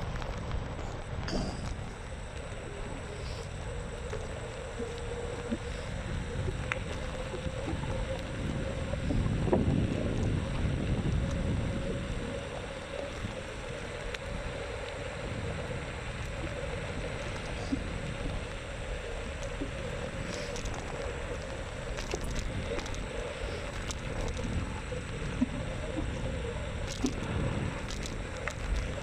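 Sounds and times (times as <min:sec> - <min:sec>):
wind buffeting microphone: 0:03.8 - 0:29.0.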